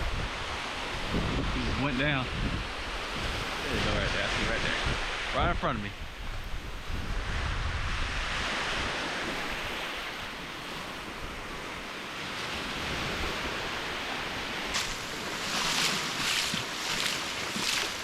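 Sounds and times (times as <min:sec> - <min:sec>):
ocean surf on a beach: 0:00.0 - 0:18.0
wind rumbling on microphone: 0:00.0 - 0:18.0.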